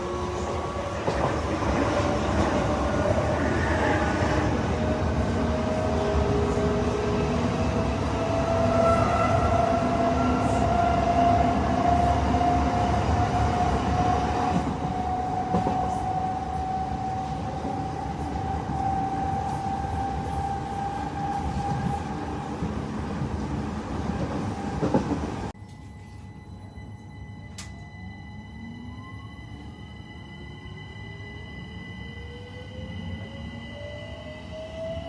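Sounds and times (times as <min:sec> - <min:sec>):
train running noise: 0:00.0 - 0:35.0.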